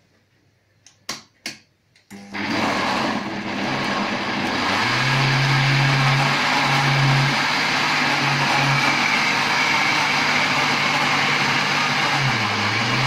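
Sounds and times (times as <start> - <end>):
blender motor running: 2.1 - 13.0.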